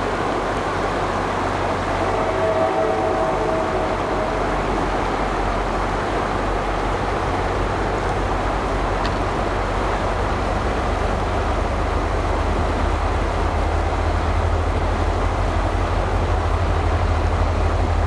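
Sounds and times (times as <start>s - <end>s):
train locomotive rumble: 0.0s - 18.0s
train rolling noise: 0.0s - 18.0s.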